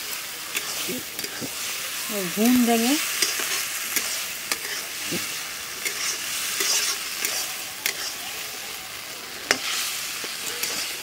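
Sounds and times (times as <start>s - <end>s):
vegetables sizzling in a pan: 0.0s - 11.0s
metal spatula scraping a pan: 0.4s - 1.8s, 2.5s - 11.0s.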